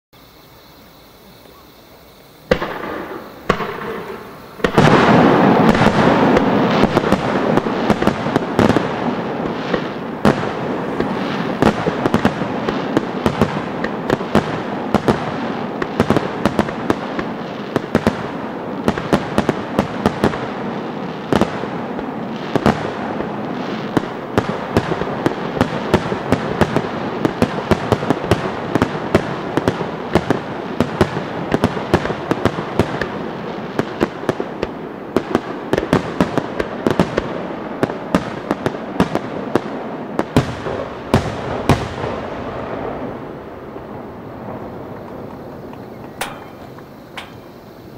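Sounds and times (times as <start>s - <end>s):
fireworks booms and crackling: 2.2s - 47.9s
sharp firework bangs: 2.4s - 47.9s.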